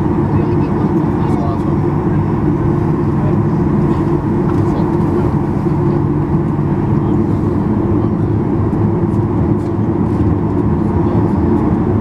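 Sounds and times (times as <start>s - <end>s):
jet engines in airplane cabin: 0.0s - 12.0s.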